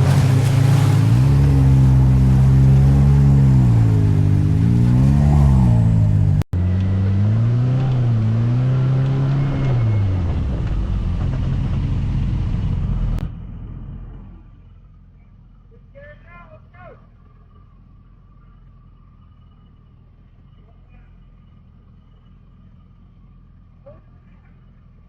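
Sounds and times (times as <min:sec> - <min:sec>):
utility vehicle engine running: 0:00.0 - 0:25.0.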